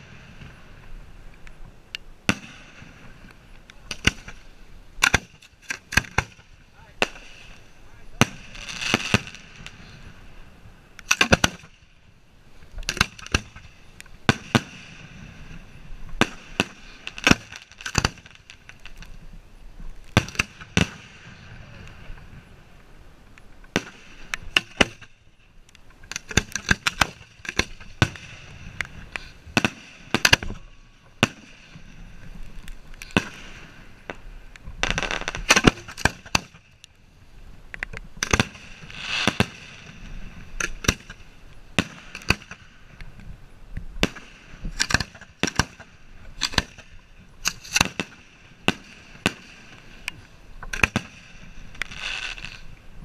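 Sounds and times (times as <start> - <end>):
fireworks bangs: 2.2 - 12.1, 12.8 - 19.2, 20.1 - 22.8, 23.6 - 25.4, 26.0 - 36.7, 38.1 - 43.0, 44.0 - 52.8.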